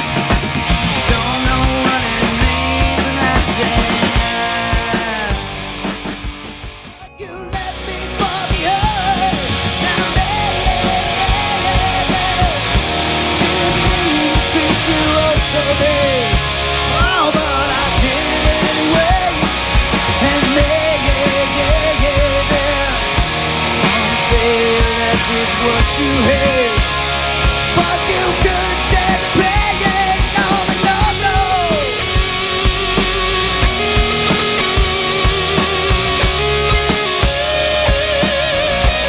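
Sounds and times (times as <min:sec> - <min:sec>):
melodic lead guitar line: 0:00.0 - 0:39.0
rock band music: 0:00.0 - 0:39.0.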